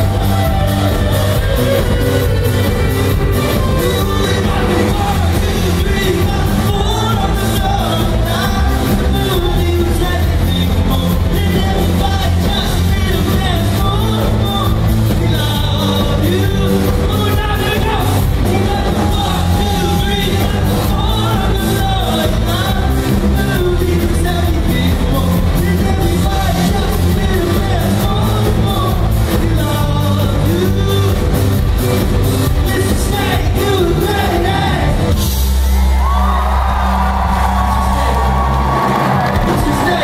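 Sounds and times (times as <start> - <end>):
man singing: 0.0 - 35.2, 39.3 - 40.0
live indie pop band: 0.0 - 40.0.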